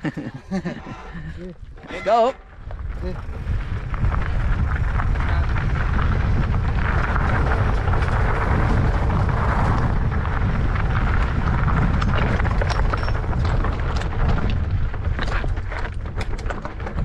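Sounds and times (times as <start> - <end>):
bike clicks and rattles: 0.0 - 17.0
tyre noise on dirt trail: 0.0 - 17.0
wind buffeting microphone: 0.0 - 17.0.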